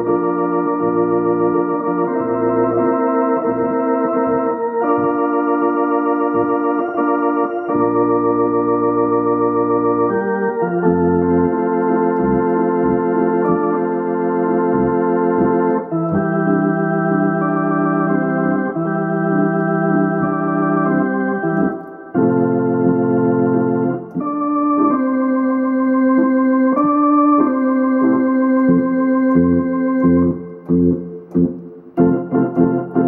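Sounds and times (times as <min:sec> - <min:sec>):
organ bass pedal notes: 0:00.0 - 0:33.0
organ playing held chords: 0:00.0 - 0:33.0.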